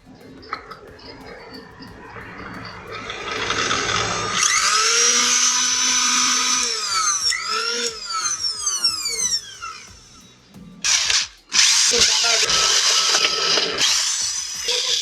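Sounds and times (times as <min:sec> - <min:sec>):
mixer grinder motor whining: 0:00.0 - 0:10.2, 0:10.8 - 0:15.0.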